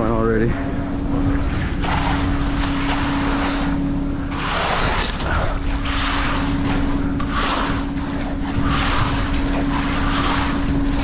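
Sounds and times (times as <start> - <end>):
engine humming: 0.0 - 11.0
wind hissing across microphone: 0.0 - 11.0.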